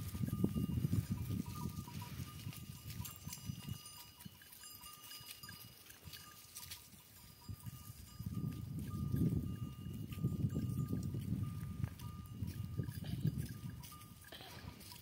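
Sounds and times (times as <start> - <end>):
goat bells clinking: 0.0 - 15.0.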